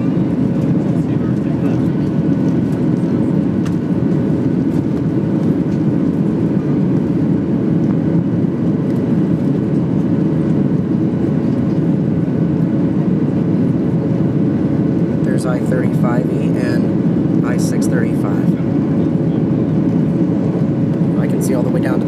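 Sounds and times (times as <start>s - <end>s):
jet engines at climb power: 0.0s - 22.0s.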